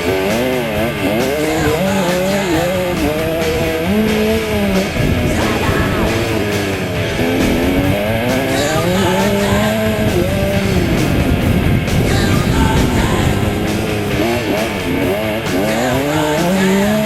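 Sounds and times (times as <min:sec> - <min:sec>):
motocross bike engine revving: 0:00.0 - 0:17.0
rock music: 0:00.0 - 0:17.0.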